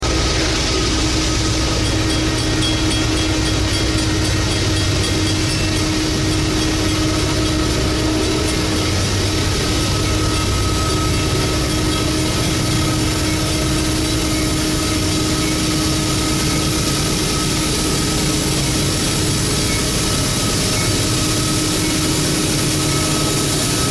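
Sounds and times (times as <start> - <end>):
diesel locomotive engine running: 0.0 - 23.9.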